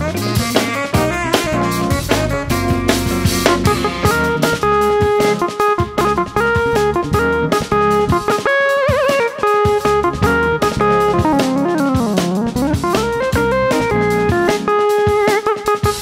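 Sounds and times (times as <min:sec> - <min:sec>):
drum kit: 0:00.0 - 0:16.0
electric bass: 0:00.0 - 0:16.0
keyboards and synthesizer: 0:00.0 - 0:16.0.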